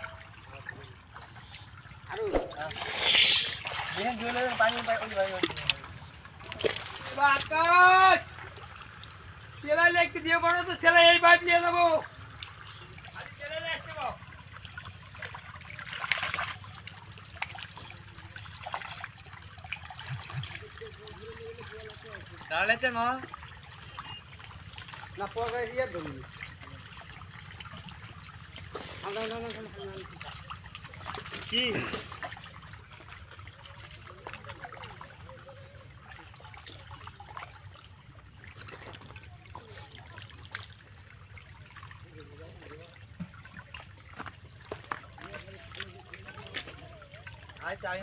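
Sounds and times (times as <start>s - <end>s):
fish splashing: 0.0s - 9.6s, 12.0s - 48.0s
water trickling into pool: 0.0s - 48.0s.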